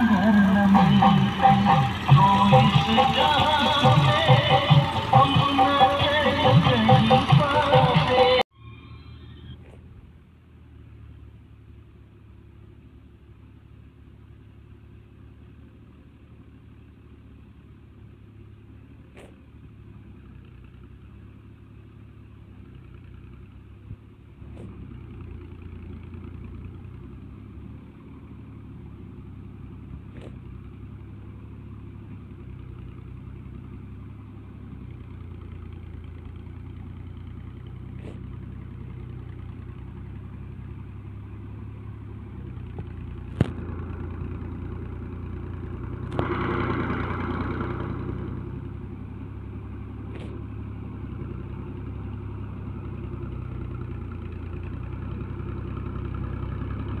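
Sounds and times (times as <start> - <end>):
tractor diesel engine pulling: 0.0 - 57.0.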